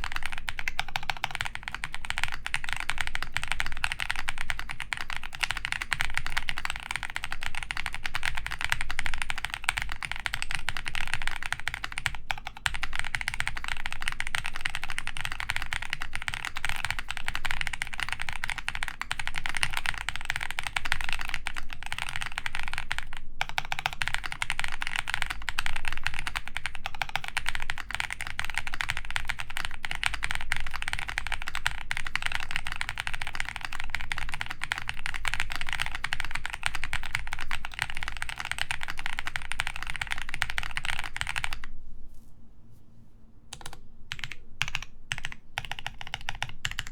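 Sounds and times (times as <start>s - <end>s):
fast typing on mechanical keyboard: 0.0s - 41.7s, 43.5s - 46.9s.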